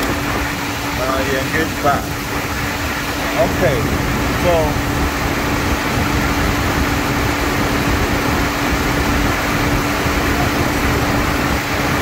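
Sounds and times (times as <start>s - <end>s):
air conditioning whir: 0.0s - 12.0s
car engine idling: 0.0s - 12.0s.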